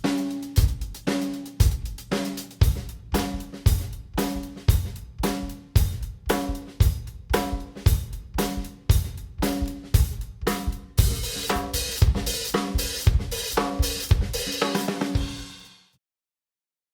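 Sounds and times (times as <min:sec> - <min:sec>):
drum kit playing steady beat: 0:00.0 - 0:15.8.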